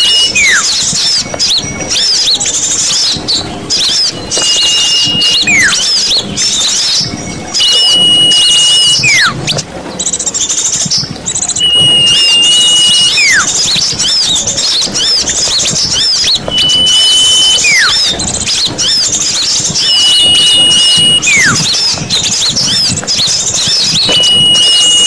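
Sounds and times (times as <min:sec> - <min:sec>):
fast high bird twittering: 0:00.0 - 0:25.0
high bird whistle: 0:00.0 - 0:25.0.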